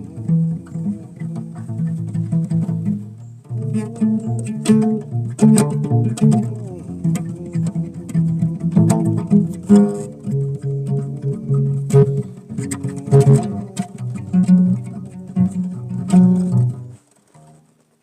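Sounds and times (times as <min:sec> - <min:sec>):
plucked bass line: 0:00.0 - 0:17.7.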